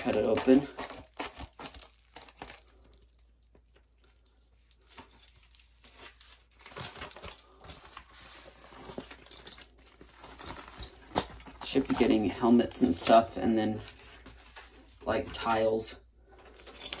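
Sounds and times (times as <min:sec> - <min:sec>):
plastic mailer bag rustling: 0:00.0 - 0:15.4.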